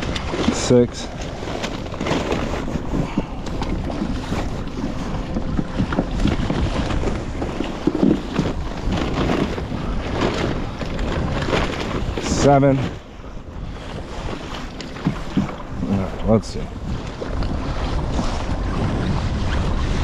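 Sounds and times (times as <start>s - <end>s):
sea water sloshing: 0.0s - 20.0s
wind buffeting microphone: 0.0s - 20.0s.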